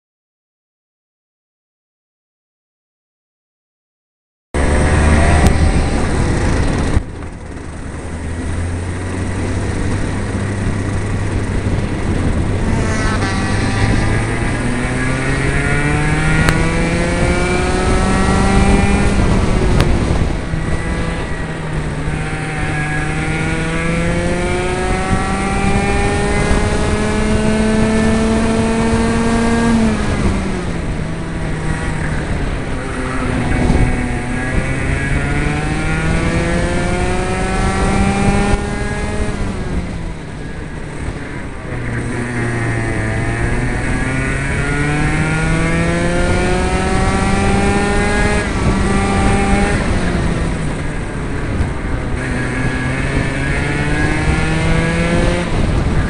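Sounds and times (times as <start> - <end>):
kart engine at speed: 4.6 - 56.0.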